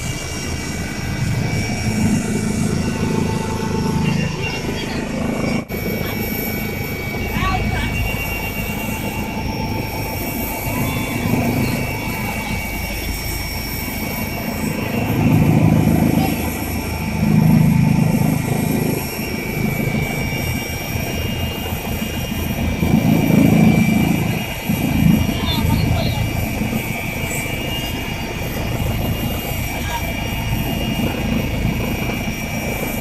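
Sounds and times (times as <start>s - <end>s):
helicopter running: 0.0s - 33.0s.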